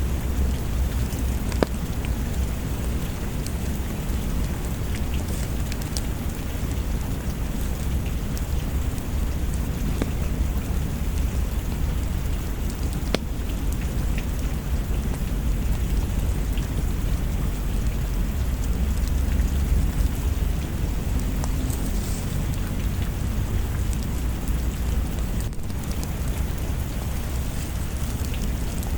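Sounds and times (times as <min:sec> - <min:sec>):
deep low rumble: 0:00.0 - 0:28.9
steady rain: 0:00.0 - 0:28.9.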